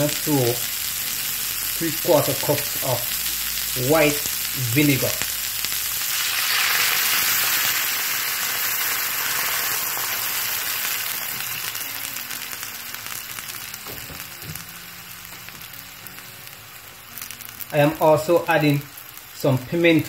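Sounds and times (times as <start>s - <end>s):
loud sizzle in frying pan: 0.0s - 20.0s.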